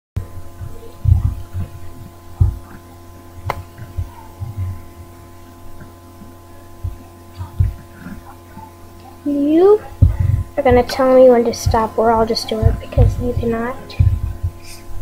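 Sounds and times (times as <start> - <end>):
dull low thumps: 0.2 - 8.0, 9.6 - 15.0
electrical hum: 0.2 - 15.0.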